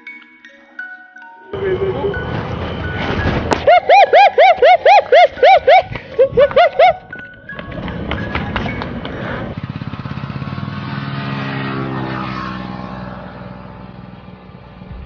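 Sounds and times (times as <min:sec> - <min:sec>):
engine running with rapid pulse: 0:01.8 - 0:15.0.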